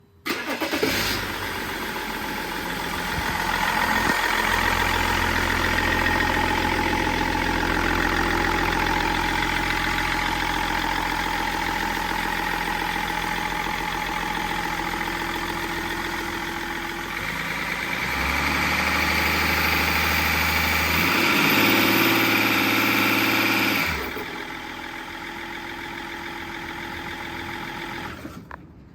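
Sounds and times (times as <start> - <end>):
diesel engine idling: 0.3 - 28.3.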